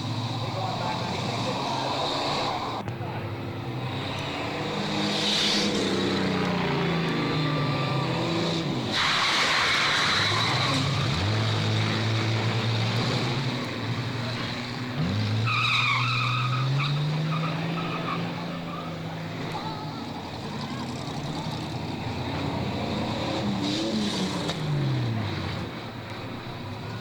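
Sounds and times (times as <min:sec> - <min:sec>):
tires skidding and squealing: 0:00.0 - 0:02.8, 0:03.5 - 0:27.0
car engines revving: 0:00.0 - 0:27.0.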